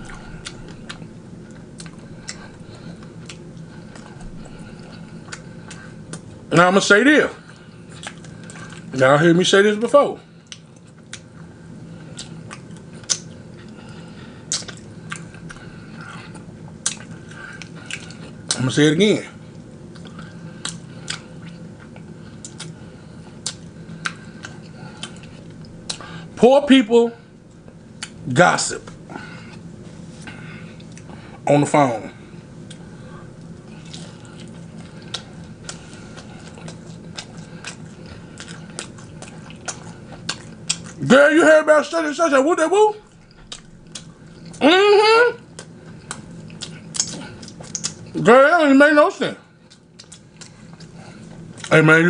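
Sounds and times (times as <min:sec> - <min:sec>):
chewing and crunching food: 0:00.0 - 0:26.4, 0:27.2 - 0:31.4, 0:32.1 - 0:41.2, 0:43.0 - 0:48.7, 0:49.4 - 0:52.0
low steady hum: 0:00.0 - 0:52.0.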